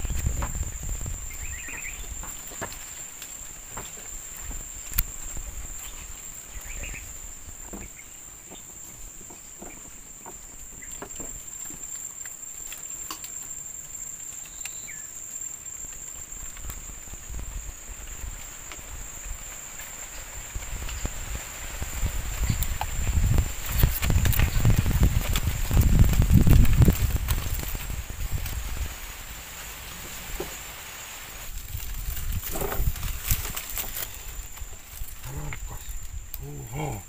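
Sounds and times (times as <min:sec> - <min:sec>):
insects droning: 0:00.0 - 0:37.0.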